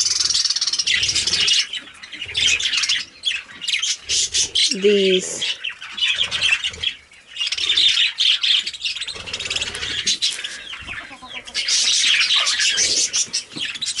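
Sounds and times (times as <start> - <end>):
budgerigars chattering: 0.0 - 14.0.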